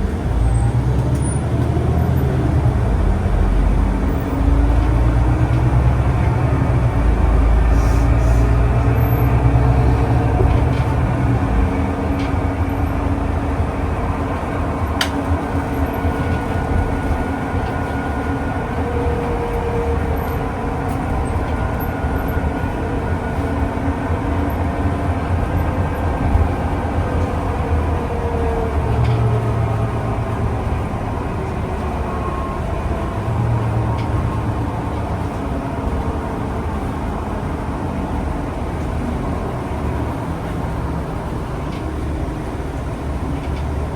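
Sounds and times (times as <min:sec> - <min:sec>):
vehicle low rumble: 0:00.0 - 0:43.9.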